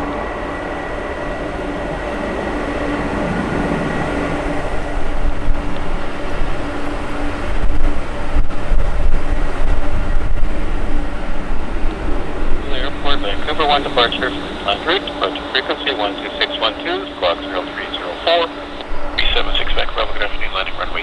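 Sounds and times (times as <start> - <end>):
jet engines whining and rumbling: 0.0 - 21.0.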